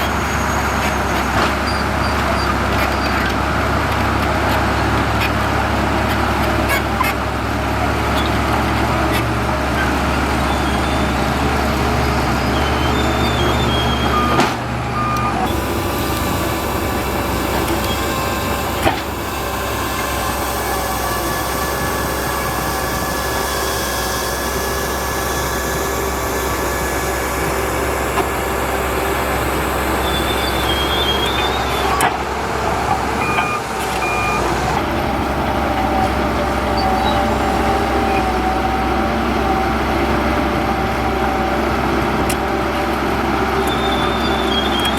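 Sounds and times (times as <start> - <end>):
diesel earthmoving machinery running: 0.0 - 44.9.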